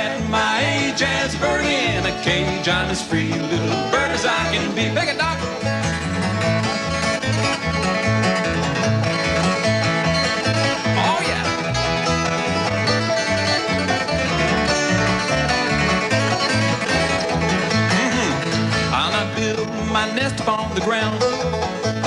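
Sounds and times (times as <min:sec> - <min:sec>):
clawhammer banjo: 0:00.0 - 0:22.0
picked acoustic guitar lead: 0:00.0 - 0:22.0
rhythmic bass line: 0:00.0 - 0:22.0
slide guitar gliding: 0:00.0 - 0:22.0.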